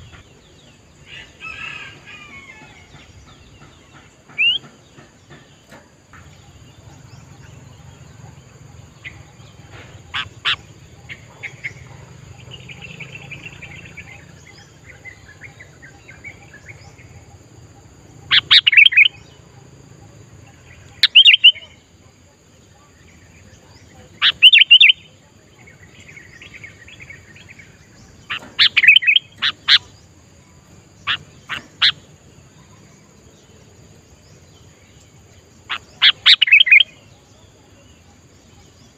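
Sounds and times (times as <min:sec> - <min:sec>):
faint bird chirping: 0:00.0 - 0:38.9.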